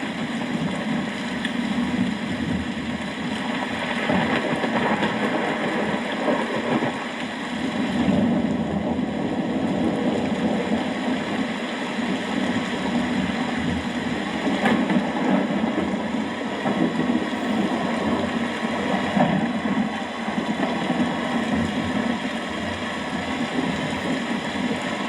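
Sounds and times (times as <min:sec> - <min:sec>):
steady rain: 0:00.0 - 0:25.0
distant thunder rumbling: 0:01.8 - 0:25.0.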